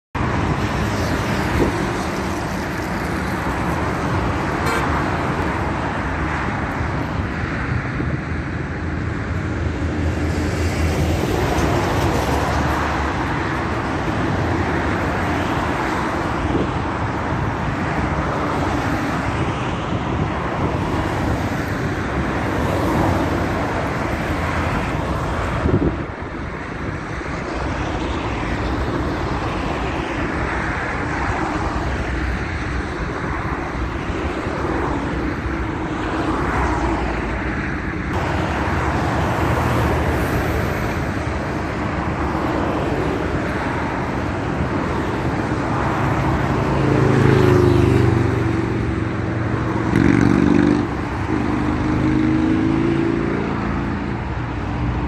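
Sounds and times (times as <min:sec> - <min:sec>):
road traffic rumble: 0:00.1 - 0:55.0.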